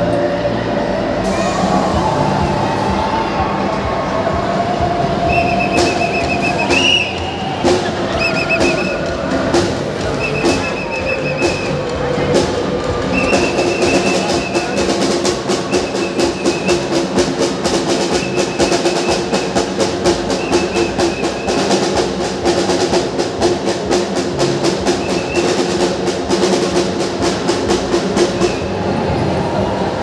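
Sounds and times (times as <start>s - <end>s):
held musical notes: 0.0s - 30.0s
fast steady drumbeat: 3.8s - 28.9s.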